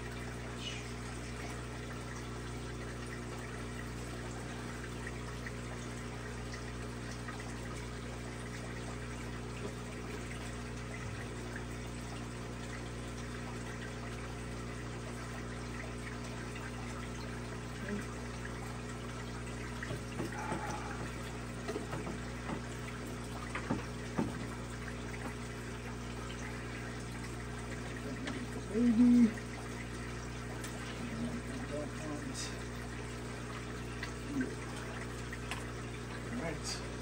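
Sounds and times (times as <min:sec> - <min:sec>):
aquarium pumps humming: 0:00.0 - 0:37.0
water trickling: 0:00.0 - 0:37.0.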